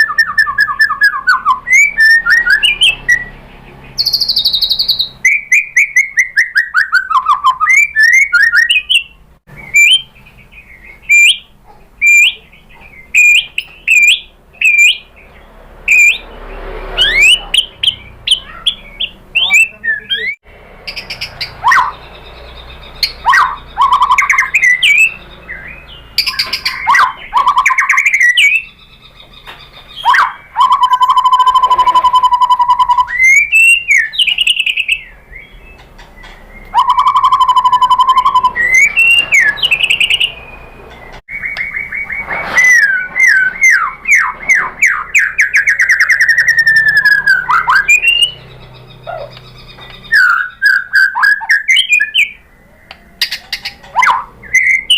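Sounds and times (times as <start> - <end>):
bird singing: 0.0 - 54.9.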